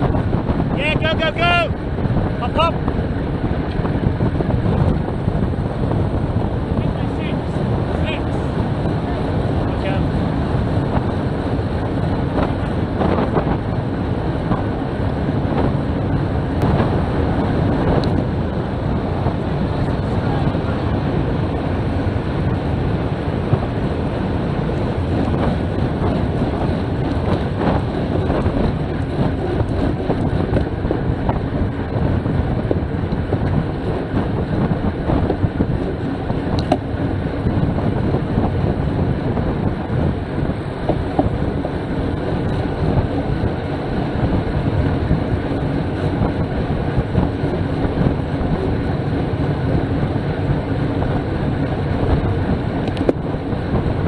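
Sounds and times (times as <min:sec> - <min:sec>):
tyres humming on tarmac: 0:00.0 - 0:54.0
wind rushing on microphone: 0:00.0 - 0:54.0.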